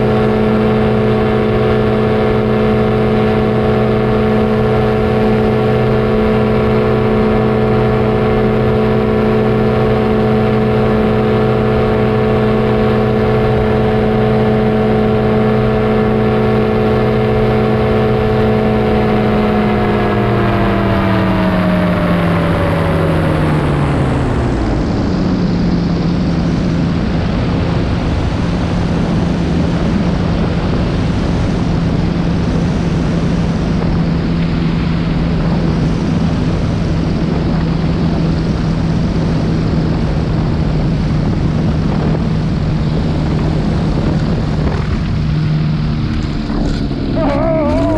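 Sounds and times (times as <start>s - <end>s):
small aircraft engine and propeller: 0.0s - 47.9s
wind rush: 0.0s - 47.9s.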